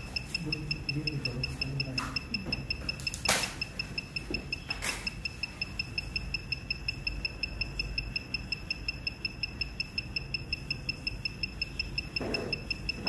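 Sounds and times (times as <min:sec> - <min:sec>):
rapid high-pitched electronic beeps: 0:00.0 - 0:13.0.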